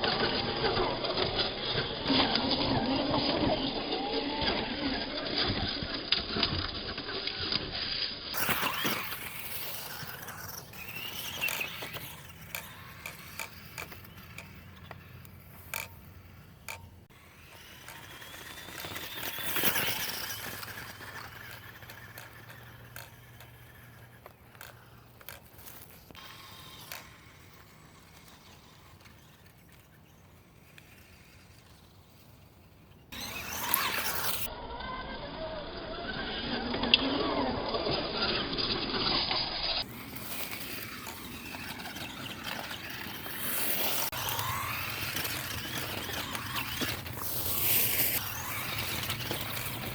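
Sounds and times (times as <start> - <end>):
toy truck motor whining: 0.0 - 49.9.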